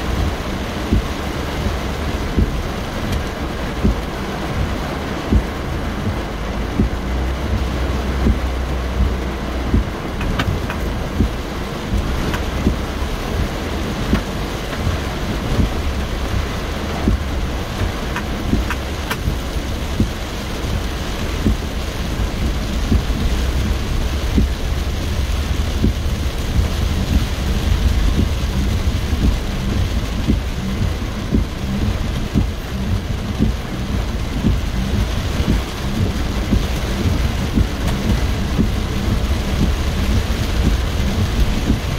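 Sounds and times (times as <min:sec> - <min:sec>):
car driving rumble: 0:00.0 - 0:41.9
heavy rain drumming on car roof: 0:00.0 - 0:41.9.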